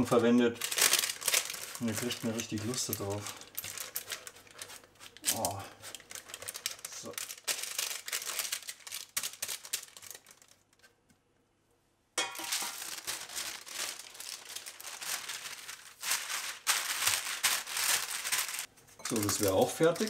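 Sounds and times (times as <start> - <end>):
baking paper crinkling: 0.0 - 11.0, 12.2 - 20.0.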